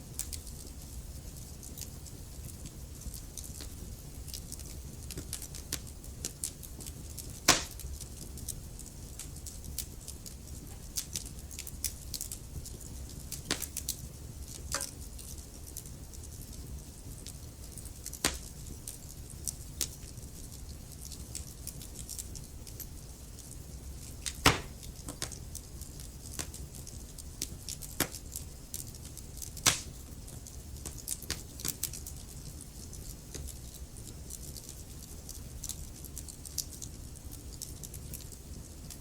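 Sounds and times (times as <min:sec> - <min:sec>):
wood fire crackling: 0:00.0 - 0:39.0
fire popping: 0:00.1 - 0:39.0.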